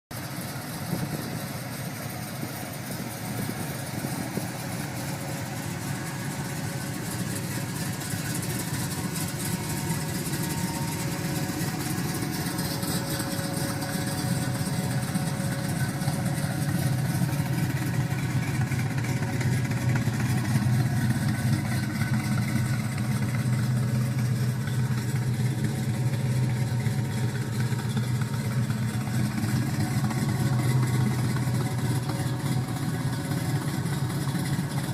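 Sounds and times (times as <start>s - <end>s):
car engine rumbling: 0.1s - 34.9s.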